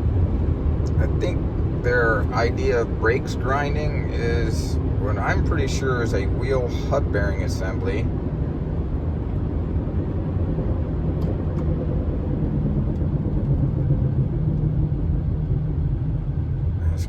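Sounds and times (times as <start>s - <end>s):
road rumble with hum: 0.0s - 17.0s.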